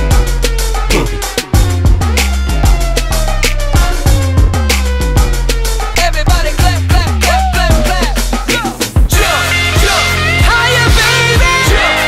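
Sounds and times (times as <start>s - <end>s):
electronic music with bass drum: 0.0s - 12.0s.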